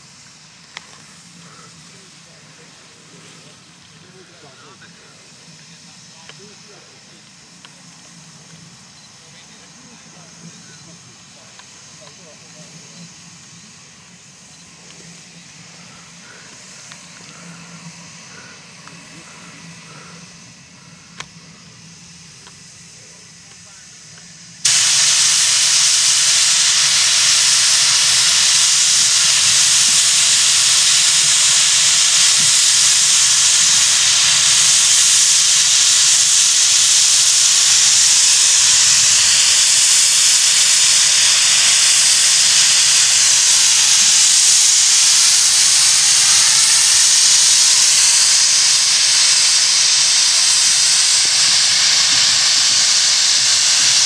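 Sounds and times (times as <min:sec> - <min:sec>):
steam hissing from safety valves: 0:00.0 - 0:54.0.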